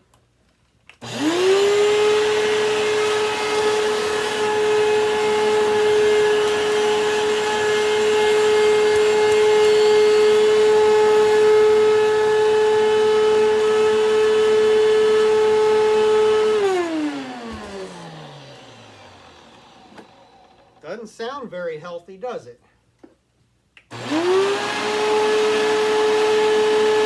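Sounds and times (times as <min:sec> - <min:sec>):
vacuum cleaner motor whine: 0:01.0 - 0:20.8, 0:23.9 - 0:27.0.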